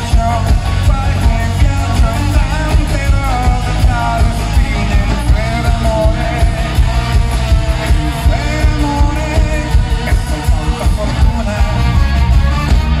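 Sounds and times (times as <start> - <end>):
drums: 0.0 - 13.0
electric bass: 0.0 - 13.0
person singing: 0.0 - 13.0.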